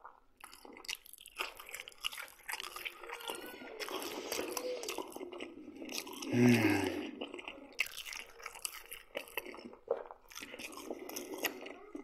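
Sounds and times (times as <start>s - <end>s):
man chewing: 0.0s - 12.0s
mouth and teeth clicks: 0.0s - 12.0s.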